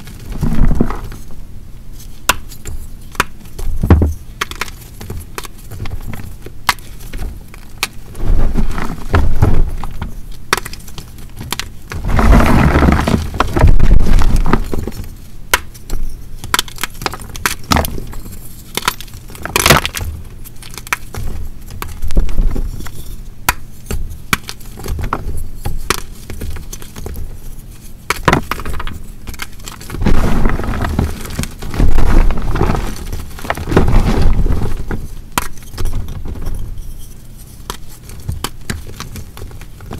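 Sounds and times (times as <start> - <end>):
chalk cracking and crumbling: 2.0 - 39.9.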